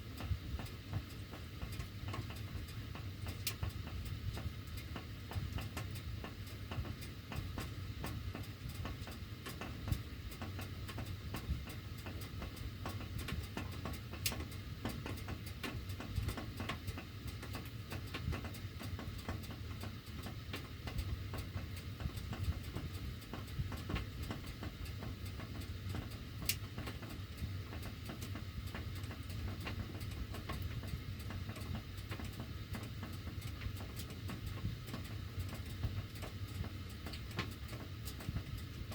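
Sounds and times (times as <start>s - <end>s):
steady low hum: 0.0s - 38.9s
ductwork ticking and clicking: 0.1s - 38.9s.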